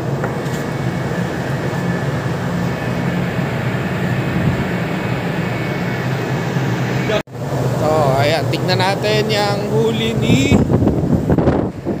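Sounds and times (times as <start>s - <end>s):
ship machinery droning: 0.0s - 12.0s.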